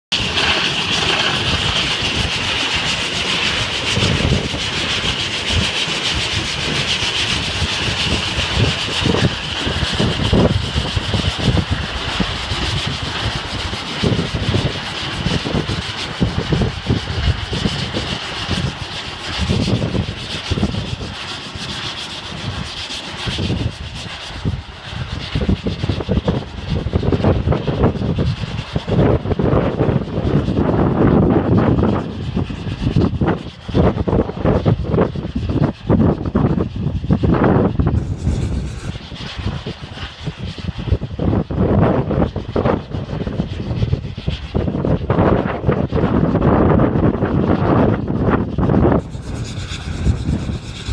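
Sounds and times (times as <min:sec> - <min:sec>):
steam locomotive hissing: 0:00.1 - 0:50.9
wind buffeting microphone: 0:00.1 - 0:50.9.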